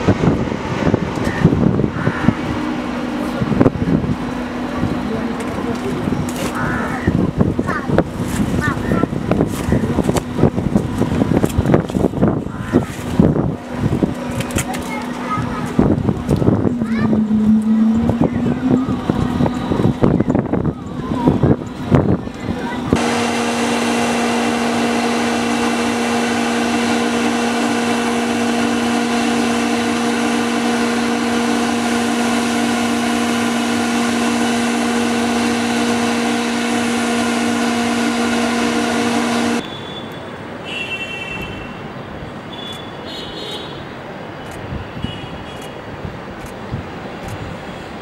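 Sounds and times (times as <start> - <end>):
jet engines drone: 0.0 - 39.8.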